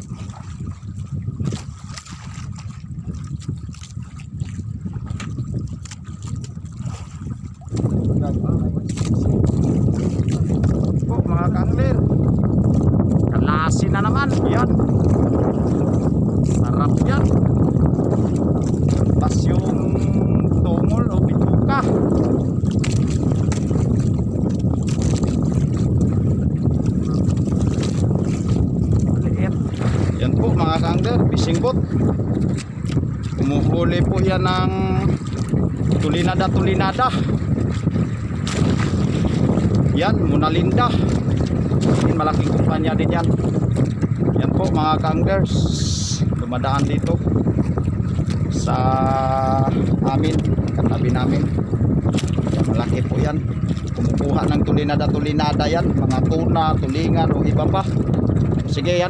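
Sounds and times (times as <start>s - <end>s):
water lapping against hull: 0.0s - 59.0s
wind rumbling on microphone: 0.0s - 59.0s.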